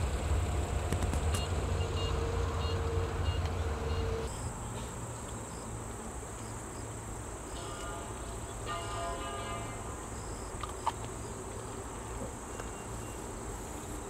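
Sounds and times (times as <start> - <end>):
insects chirping in bursts: 1.4 - 14.0.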